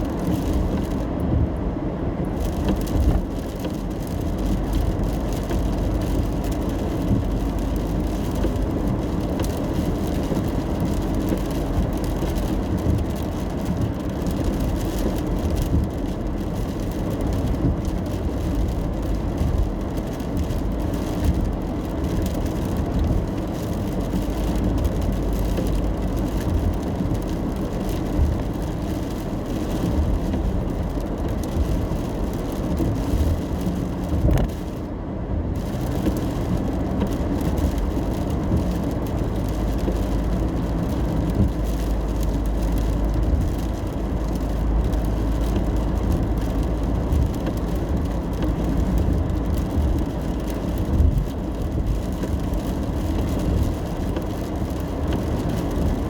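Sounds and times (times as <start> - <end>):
engine and tyre rumble: 0.0 - 56.0
rain road hiss: 0.0 - 56.0.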